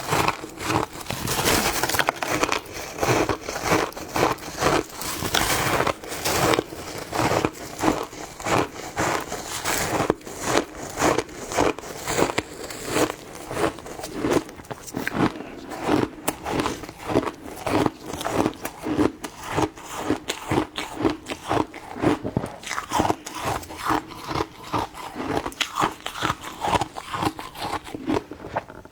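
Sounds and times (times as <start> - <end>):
ice cubes being chewed: 0.0 - 28.9.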